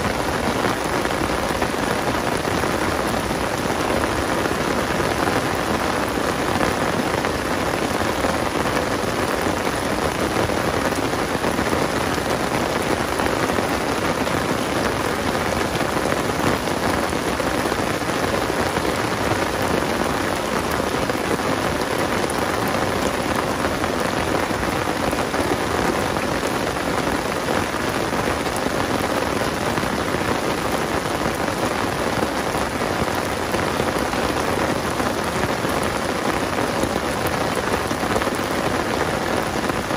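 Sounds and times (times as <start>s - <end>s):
heavy rain on pond water: 0.0s - 39.9s
rain on umbrella: 0.0s - 39.9s.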